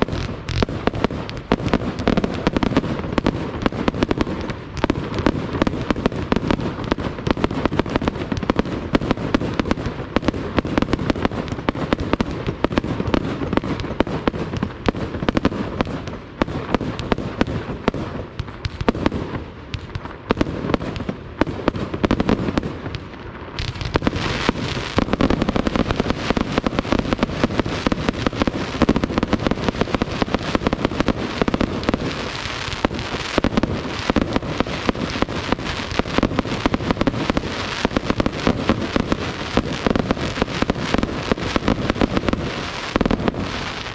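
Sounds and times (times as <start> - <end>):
hissing crackle: 0.0 - 15.4, 18.3 - 43.9
fireworks bangs: 0.0 - 43.9.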